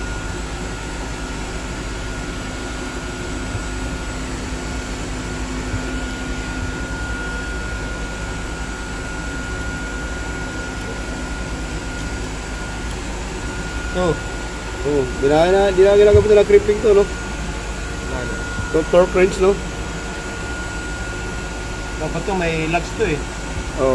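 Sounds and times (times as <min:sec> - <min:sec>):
high-pitched whine: 0:00.0 - 0:23.9
machinery humming: 0:00.0 - 0:23.9.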